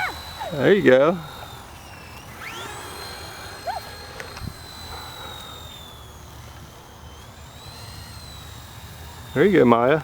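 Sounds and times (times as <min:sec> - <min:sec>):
rc helicopter motor whining: 0:00.0 - 0:10.0.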